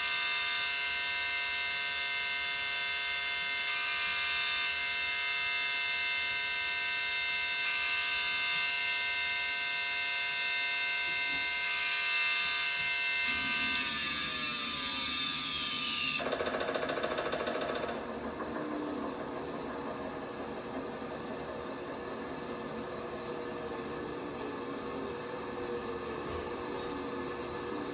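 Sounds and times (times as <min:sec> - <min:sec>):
washing machine motor whining: 0:00.0 - 0:27.9.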